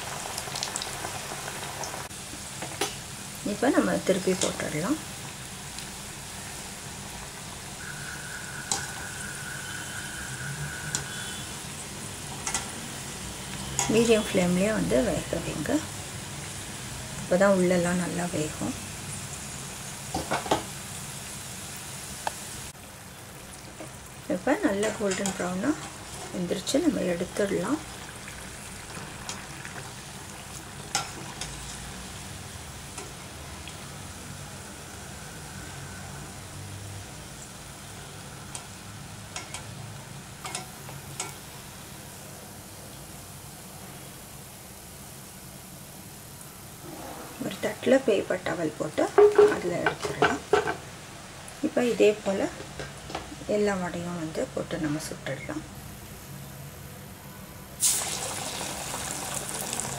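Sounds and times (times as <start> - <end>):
food deep-frying in oil: 0.0 - 56.9, 57.6 - 59.9.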